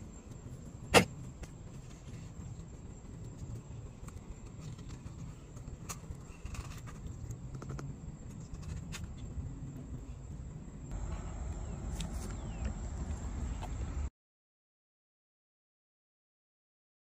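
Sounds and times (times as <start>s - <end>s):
low outdoor rumble: 0.0s - 14.1s.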